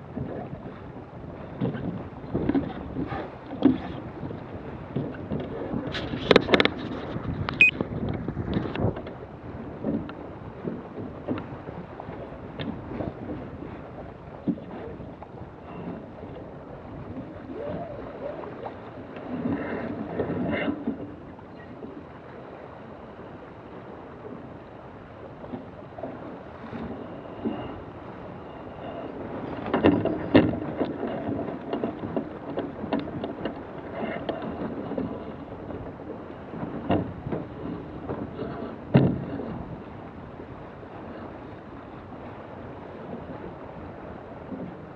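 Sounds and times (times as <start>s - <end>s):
wind on microphone: 0.0s - 44.9s.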